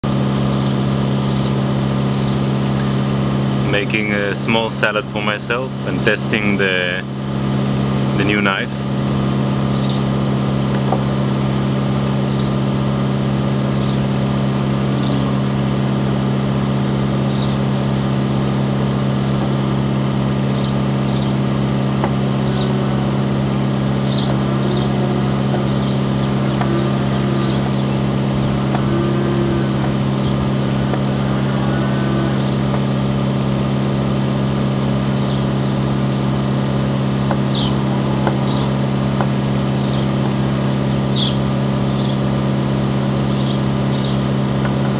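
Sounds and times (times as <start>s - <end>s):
loud engine hum: 0.0s - 44.9s.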